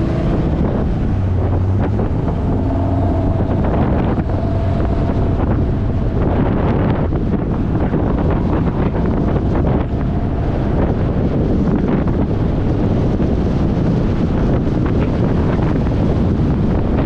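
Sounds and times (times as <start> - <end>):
vehicle road noise: 0.0 - 17.0
wind buffeting microphone: 0.0 - 17.0.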